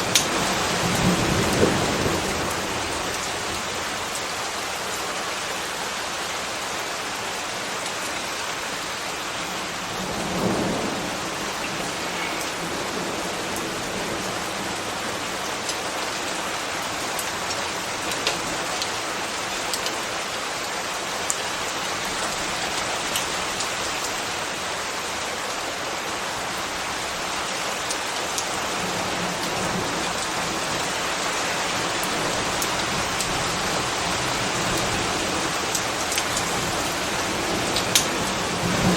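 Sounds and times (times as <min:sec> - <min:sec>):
raindrops ticking close by: 0:00.0 - 0:38.9
steady rain falling: 0:00.0 - 0:38.9.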